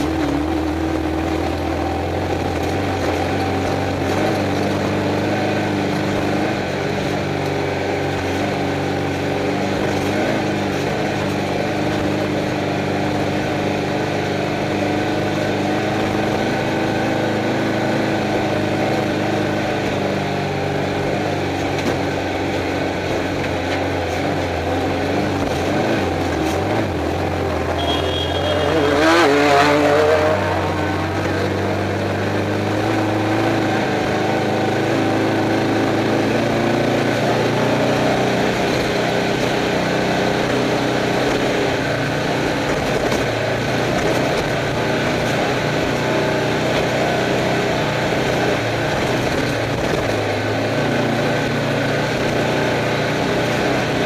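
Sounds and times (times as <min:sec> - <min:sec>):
car engine running: 0:00.0 - 0:54.0
road and wind noise: 0:00.0 - 0:54.0.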